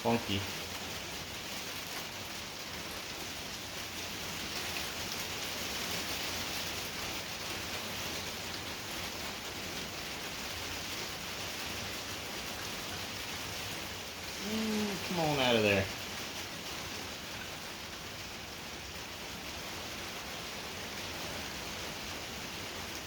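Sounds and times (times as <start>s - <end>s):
heavy rain heard from indoors: 0.0s - 23.0s.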